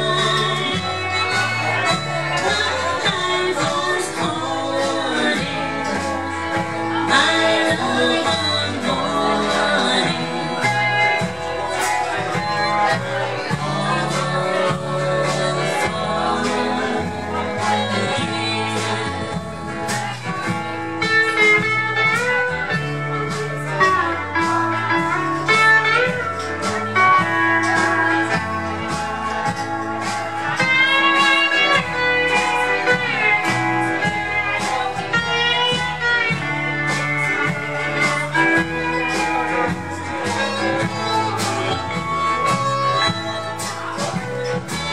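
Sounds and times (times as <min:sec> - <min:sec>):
harmonica melody: 0:00.0 - 0:44.9
live band playing instrumental: 0:00.0 - 0:44.9
steel guitar melody: 0:00.0 - 0:44.9.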